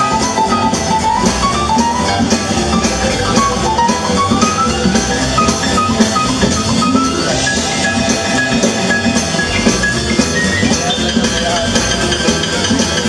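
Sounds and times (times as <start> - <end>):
big band music: 0.0 - 13.0.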